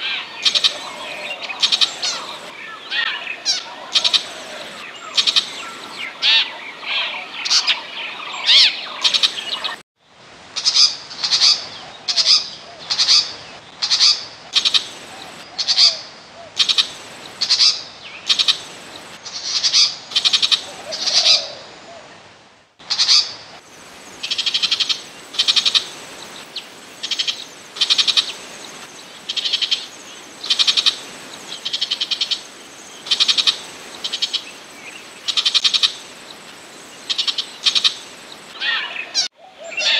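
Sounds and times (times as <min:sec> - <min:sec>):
shrike harsh rattling calls: 0:00.0 - 0:09.8, 0:12.9 - 0:16.0, 0:16.6 - 0:21.5, 0:22.8 - 0:39.9.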